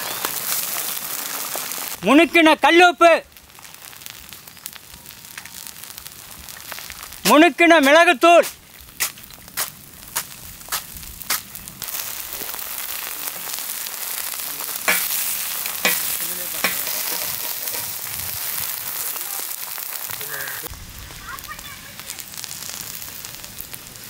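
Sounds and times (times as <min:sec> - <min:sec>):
eggs sizzling on a griddle: 0:00.0 - 0:24.0
sharp pops: 0:03.4 - 0:23.8.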